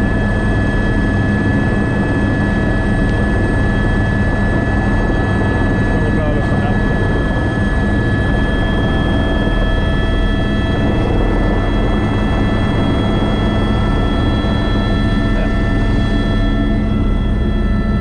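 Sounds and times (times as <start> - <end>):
helicopter engine whine: 0.0 - 18.0
helicopter rotor rumble: 0.0 - 18.0.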